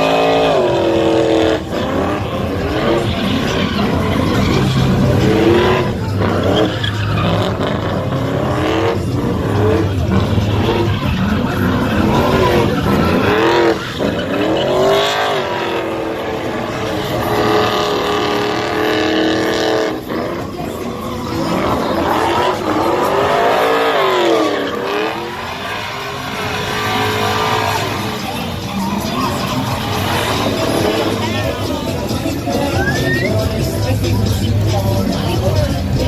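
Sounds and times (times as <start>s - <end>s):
engine revving hard: 0.0s - 36.0s
tyres squealing: 0.0s - 36.0s.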